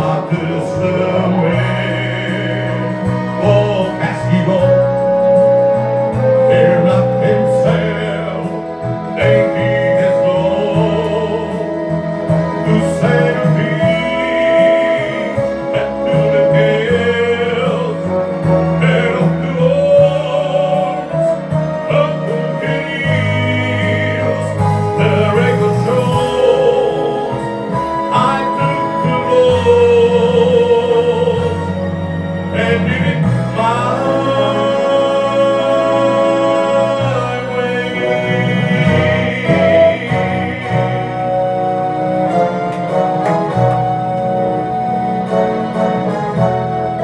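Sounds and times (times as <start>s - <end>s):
man singing into a microphone: 0.0s - 42.8s
instrumental accompaniment: 0.0s - 47.0s.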